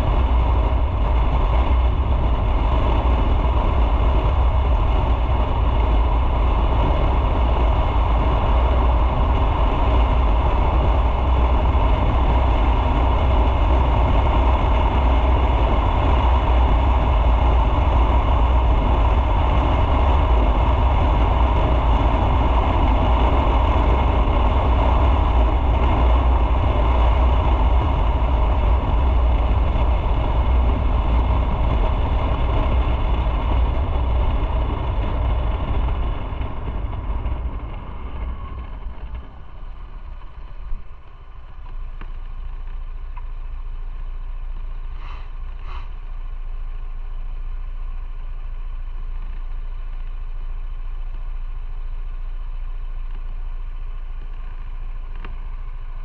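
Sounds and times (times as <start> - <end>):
motorcycle engine rumble: 0.0 - 56.0
rushing wind and road noise: 0.0 - 56.0.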